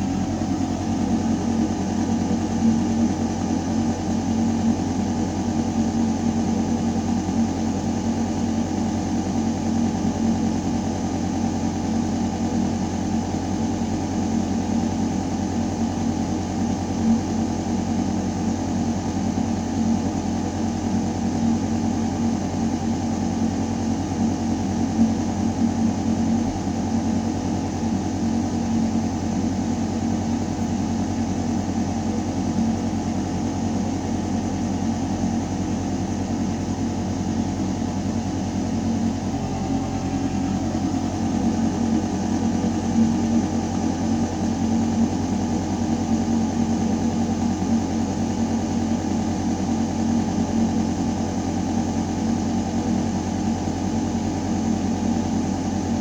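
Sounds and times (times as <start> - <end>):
ventilation system humming: 0.0 - 56.0.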